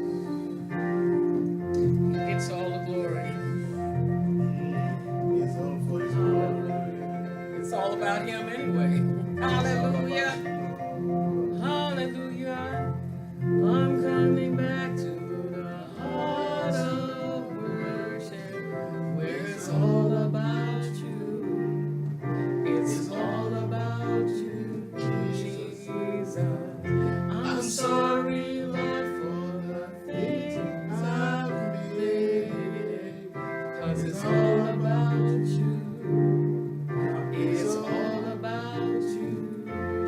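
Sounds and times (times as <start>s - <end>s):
guitar: 0.0s - 40.0s
person singing long gliding notes: 0.0s - 40.0s.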